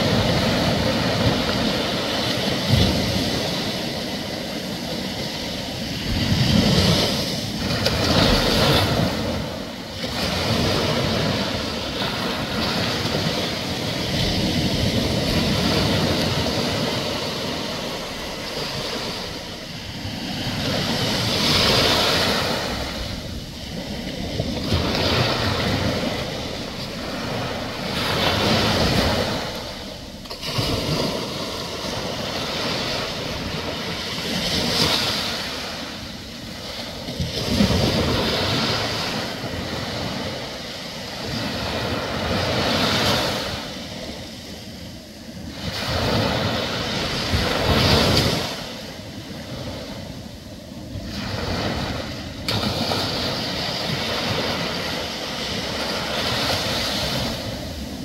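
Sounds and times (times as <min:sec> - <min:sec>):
small ocean waves breaking: 0:00.0 - 0:58.0.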